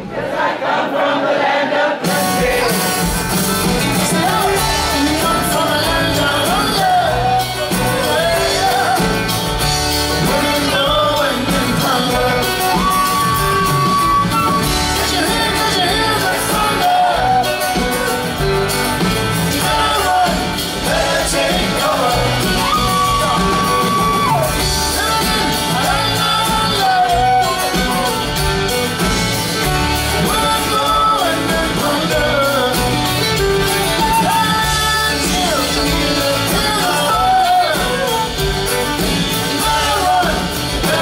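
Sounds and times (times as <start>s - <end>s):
person singing: 1.9s - 41.0s
live rock band playing: 2.0s - 41.0s.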